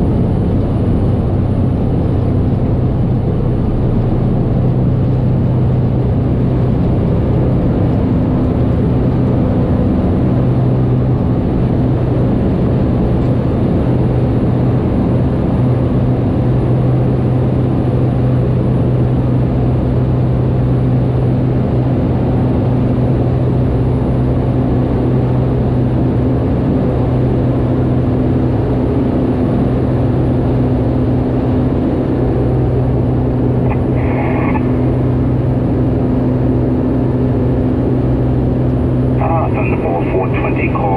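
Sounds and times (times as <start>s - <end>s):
turboprop engine drone: 0.0s - 40.9s.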